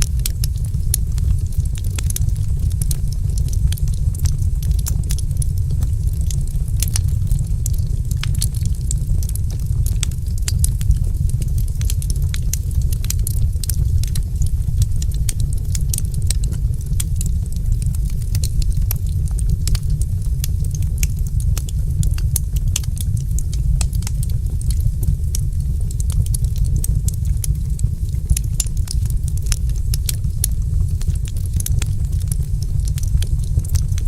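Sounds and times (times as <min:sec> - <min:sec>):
low rumble: 0:00.0 - 0:34.0
wood fire crackling: 0:00.0 - 0:34.0.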